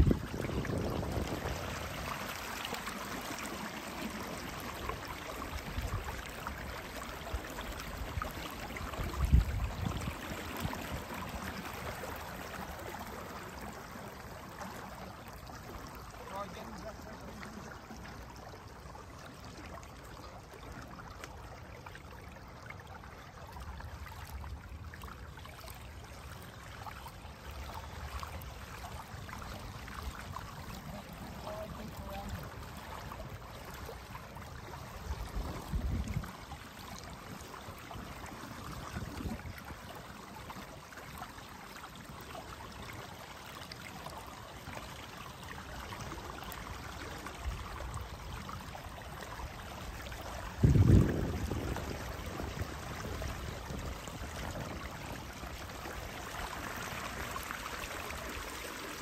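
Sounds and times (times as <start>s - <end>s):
water rushing and trickling: 0.0s - 59.0s.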